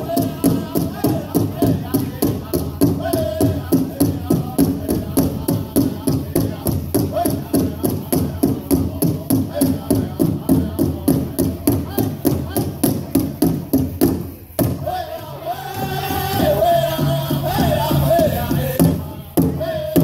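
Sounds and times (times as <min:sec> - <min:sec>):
large drum beating: 0:00.0 - 0:15.0, 0:15.7 - 0:20.0
drum group singing: 0:00.0 - 0:20.0.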